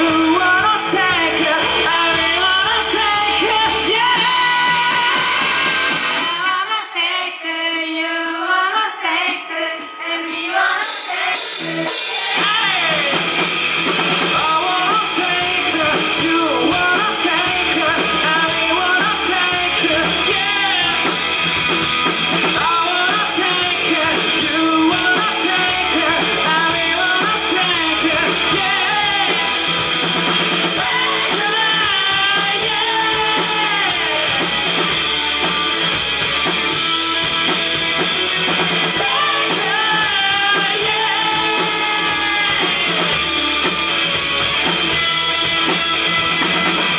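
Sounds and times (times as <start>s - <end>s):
bass guitar: 0.0s - 6.4s, 11.7s - 46.9s
electric guitar: 0.0s - 6.6s, 11.4s - 46.9s
person singing: 0.0s - 13.6s, 14.2s - 46.9s
drum kit: 0.0s - 46.9s.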